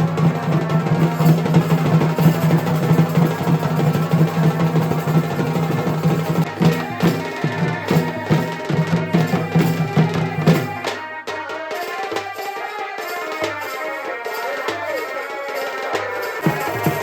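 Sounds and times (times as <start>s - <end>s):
folk music: 0.0s - 17.0s
loud drumming: 0.0s - 17.0s.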